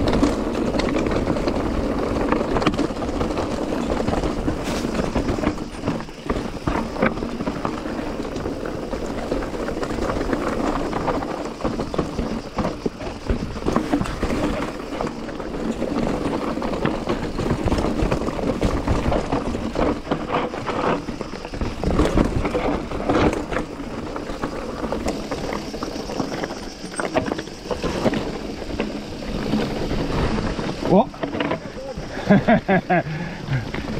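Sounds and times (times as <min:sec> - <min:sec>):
bike rattling over bumps: 0:00.0 - 0:33.9
tyre and wind noise: 0:00.0 - 0:33.9.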